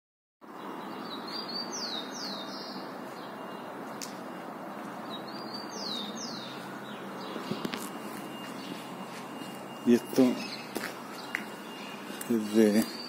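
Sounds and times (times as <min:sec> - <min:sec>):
outdoor background noise: 0:00.4 - 0:13.0.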